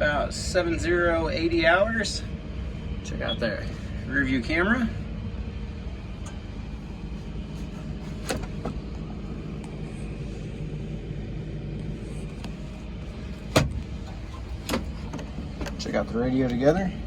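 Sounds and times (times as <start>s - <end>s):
excavator diesel engine idling: 0.0s - 17.0s.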